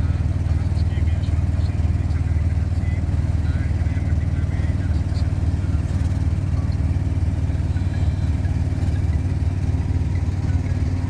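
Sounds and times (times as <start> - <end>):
road noise: 0.0 - 11.0
vehicle engine rumbling: 0.0 - 11.0.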